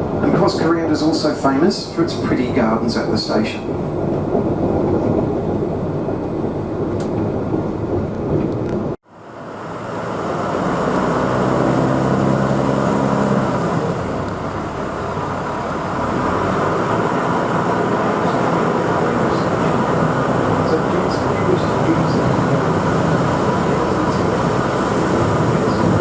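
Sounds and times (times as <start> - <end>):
diesel train rumbling: 0.0 - 26.0
low engine drone: 0.0 - 26.0.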